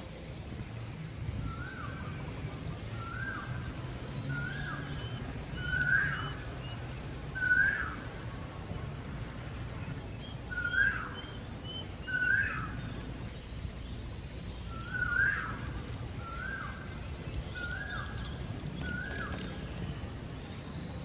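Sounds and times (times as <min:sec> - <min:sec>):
low outdoor background rumble: 0:00.0 - 0:21.0
bird whistled call: 0:01.2 - 0:21.0.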